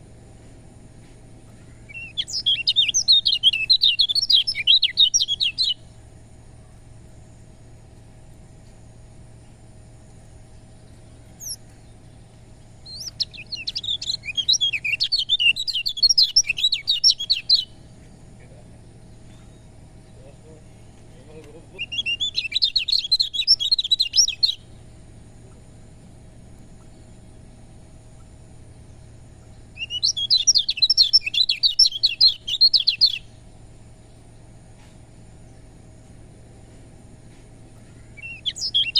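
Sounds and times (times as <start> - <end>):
low steady hum: 0.0 - 38.9
fast high bird song: 1.0 - 7.6, 8.5 - 38.9
bird chirp: 1.0 - 38.9.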